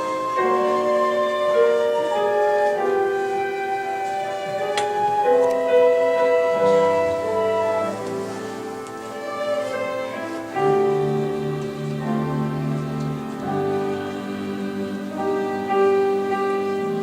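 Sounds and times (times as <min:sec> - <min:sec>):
slow orchestral music: 0:00.0 - 0:17.0.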